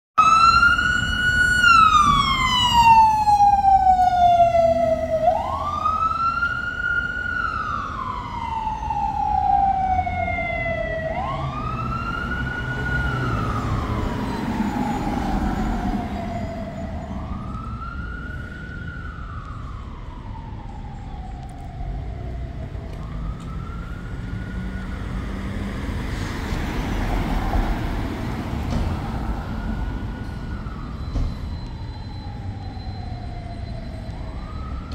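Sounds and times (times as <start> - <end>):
low traffic rumble: 0.2 - 34.9
siren wailing: 0.2 - 34.9.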